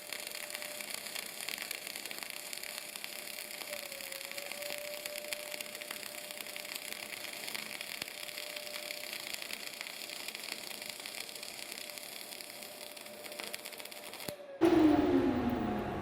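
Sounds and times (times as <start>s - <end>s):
welding arc crackling hiss: 0.0s - 16.0s.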